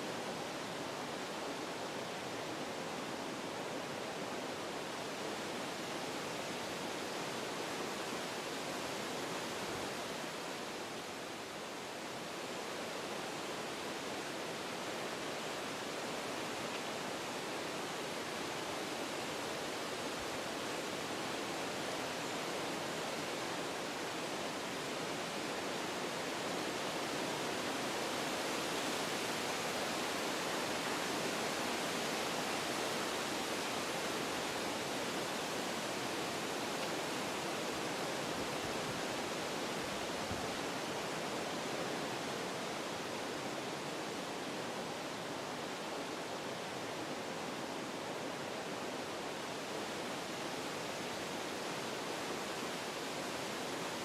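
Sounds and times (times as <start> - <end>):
wind rushing through trees: 0.0 - 54.0.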